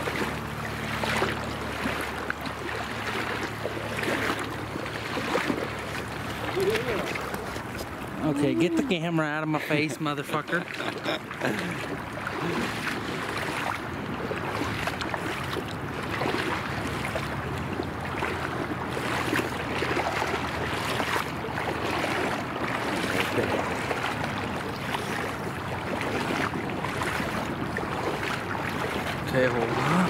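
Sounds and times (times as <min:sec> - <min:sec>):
legs wading through water: 0:00.0 - 0:30.0
river water rushing: 0:00.0 - 0:30.0.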